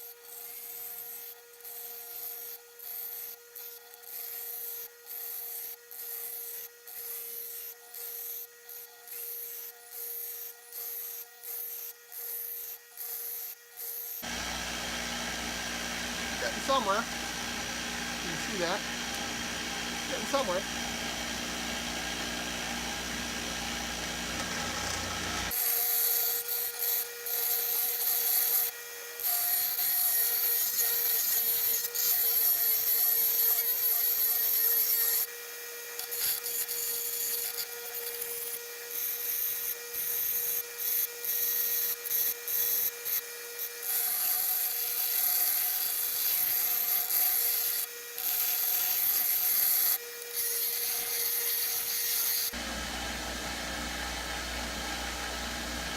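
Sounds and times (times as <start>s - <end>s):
grinder grinding metal: 0.0s - 55.9s.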